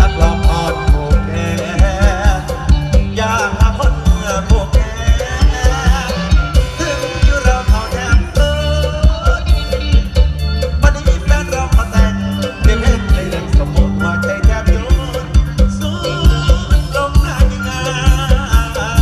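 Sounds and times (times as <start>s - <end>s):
driving drum beat: 0.0s - 19.0s
wavering melody line: 0.0s - 19.0s.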